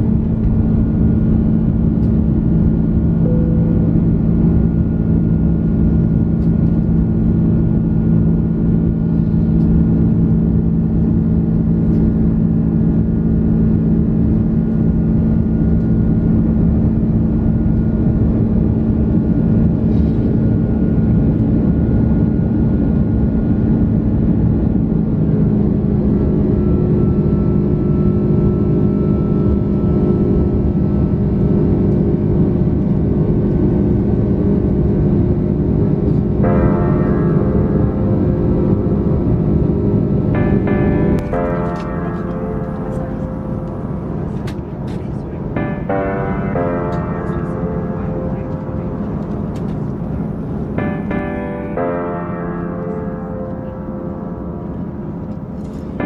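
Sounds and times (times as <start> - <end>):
jet engines droning: 0.0 - 32.4, 35.2 - 56.0.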